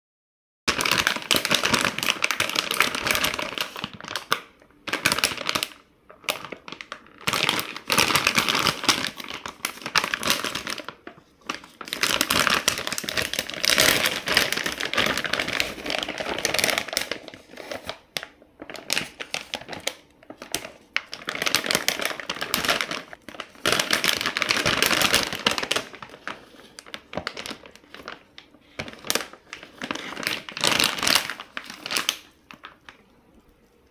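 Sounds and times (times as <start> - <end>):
plastic bag crinkling: 0.7 - 33.9.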